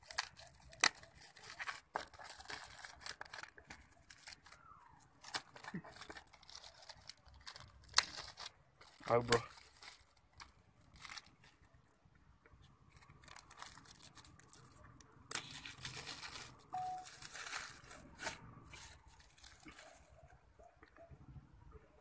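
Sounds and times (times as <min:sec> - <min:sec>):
wrapping paper tearing and crumpling: 0:00.0 - 0:11.7, 0:12.8 - 0:20.1.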